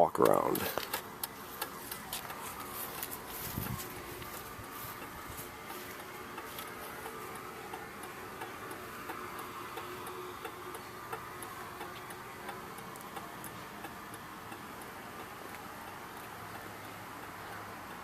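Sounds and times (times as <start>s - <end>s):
hazard flasher relay clicking: 0.0s - 18.0s.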